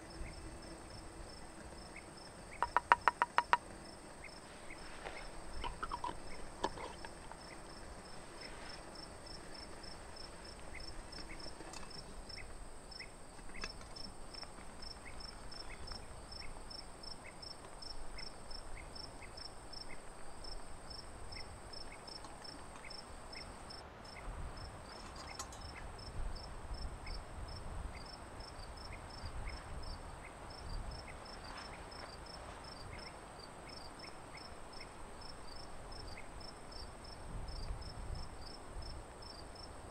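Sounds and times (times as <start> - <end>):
fast high cricket chirps: 0.0 - 39.9
high insect hiss: 0.0 - 39.9
slower low cricket chirps: 0.0 - 39.9.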